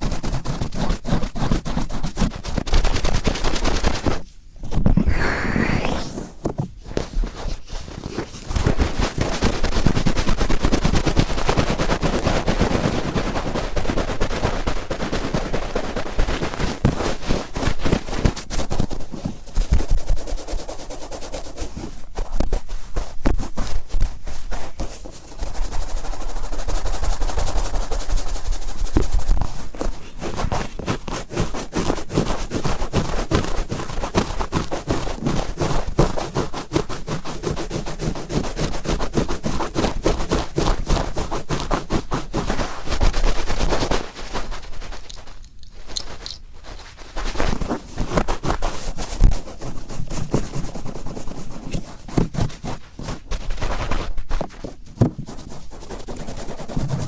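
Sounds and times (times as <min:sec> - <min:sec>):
cotton swab scratching in ear: 0:00.0 - 0:04.2, 0:04.9 - 0:57.0.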